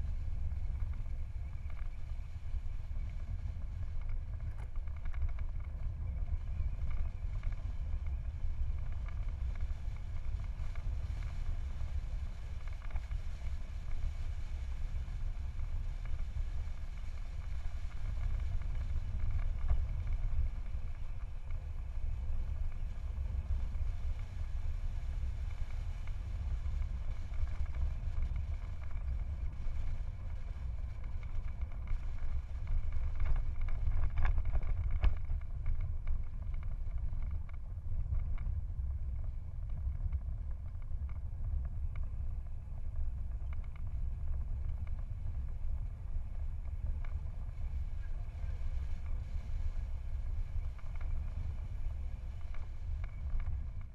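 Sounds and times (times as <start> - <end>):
bicycle road noise on tarmac: 0.0 - 53.9
wind rumbling on microphone: 0.0 - 53.9.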